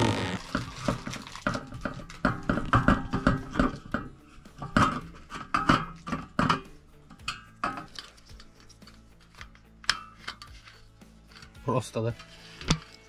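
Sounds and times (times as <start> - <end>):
metal parts clicking and knocking: 0.1 - 13.0.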